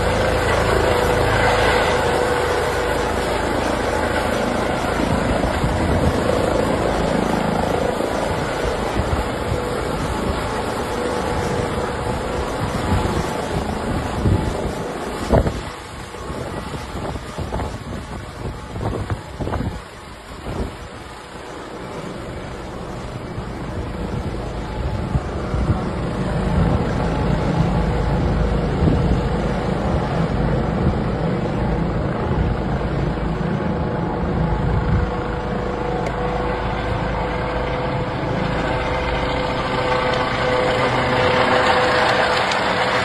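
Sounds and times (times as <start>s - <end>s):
helicopter rotor and turbine: 0.0s - 43.0s
helicopter whine: 0.0s - 43.0s.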